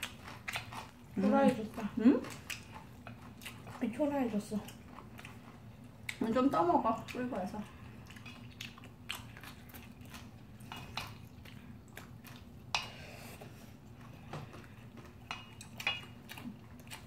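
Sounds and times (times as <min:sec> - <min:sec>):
chewing with wet mouth clicks: 0:00.0 - 0:17.0
low steady hum: 0:00.0 - 0:17.0.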